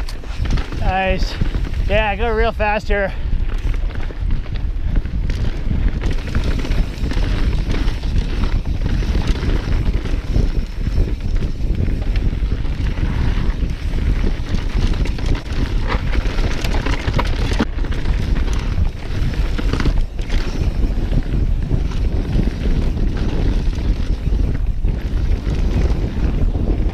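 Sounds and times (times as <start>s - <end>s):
bike knocks and rattles: 0.0s - 2.3s, 3.5s - 26.9s
tyres rolling on dirt trail: 0.0s - 26.9s
wind buffeting microphone: 0.0s - 26.9s.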